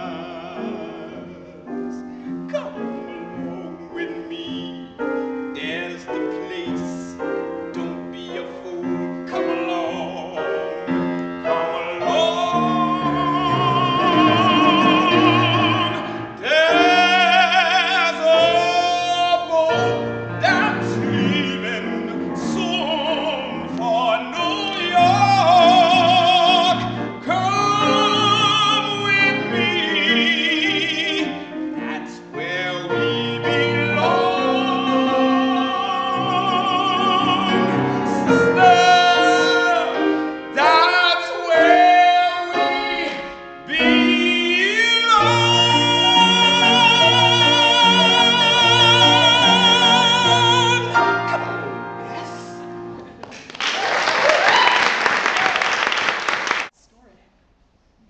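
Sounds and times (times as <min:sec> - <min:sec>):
tenor singing with vibrato: 0:00.0 - 0:52.7
piano accompaniment: 0:00.0 - 0:54.3.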